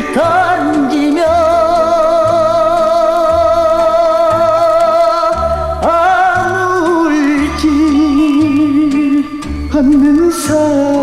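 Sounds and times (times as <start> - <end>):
man singing with vibrato: 0.0 - 11.0
steady bass beat: 0.0 - 11.0.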